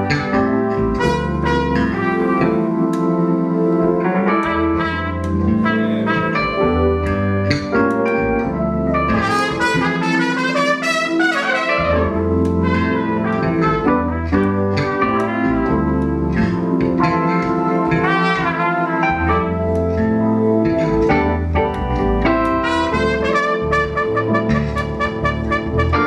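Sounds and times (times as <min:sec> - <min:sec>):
trumpet: 0:00.0 - 0:03.7, 0:04.3 - 0:07.9, 0:08.9 - 0:21.5, 0:22.4 - 0:26.0
live brass band playing: 0:00.0 - 0:07.3, 0:08.6 - 0:21.5, 0:22.3 - 0:26.0
trombone: 0:00.0 - 0:26.0.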